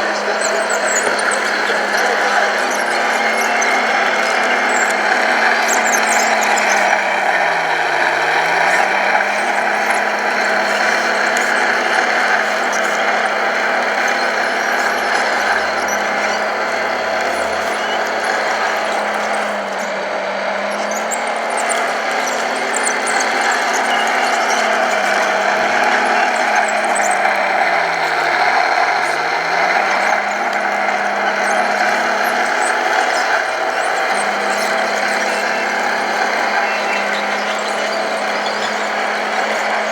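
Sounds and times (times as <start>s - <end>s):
electric motors whining: 0.0s - 39.9s
low motor hum: 0.0s - 39.9s
model machine mechanical drone: 0.0s - 39.9s.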